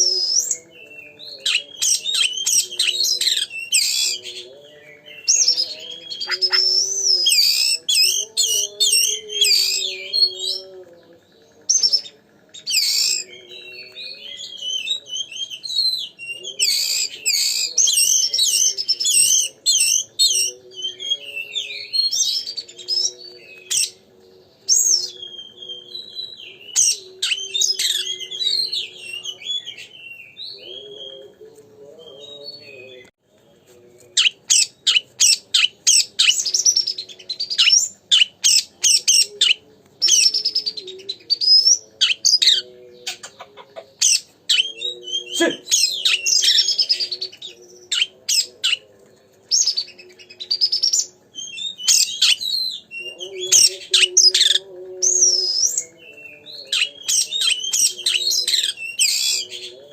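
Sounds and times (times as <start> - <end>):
songbird singing whistles and trills: 0.0 - 31.4, 34.2 - 43.3, 44.0 - 48.8, 49.5 - 59.9.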